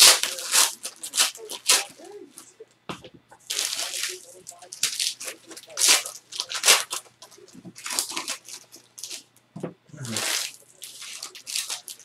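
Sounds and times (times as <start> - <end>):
wrappers tearing and crinkling: 0.0 - 2.5, 3.4 - 9.3, 10.0 - 12.0.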